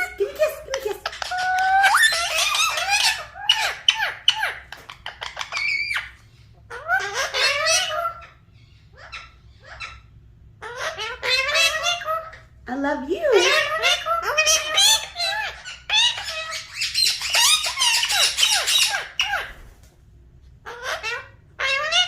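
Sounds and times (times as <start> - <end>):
parrot chattering: 0.0 - 12.6, 13.2 - 19.6.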